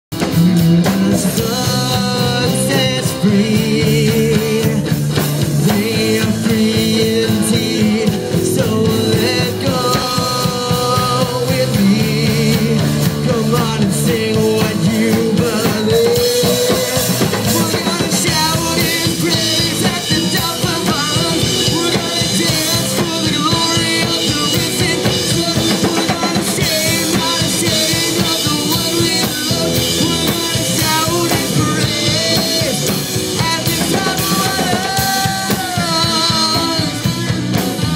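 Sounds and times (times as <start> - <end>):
bass guitar: 0.0 - 37.9
drum kit: 0.1 - 37.9
electric guitars: 0.1 - 37.9
lead singer singing: 0.2 - 37.9.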